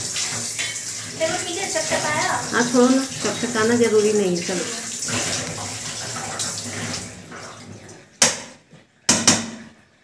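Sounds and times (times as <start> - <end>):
tap water running into pan: 0.0 - 9.8.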